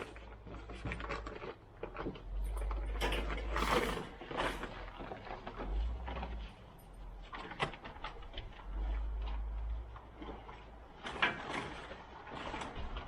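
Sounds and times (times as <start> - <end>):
scraping rustle: 0.0 - 13.0.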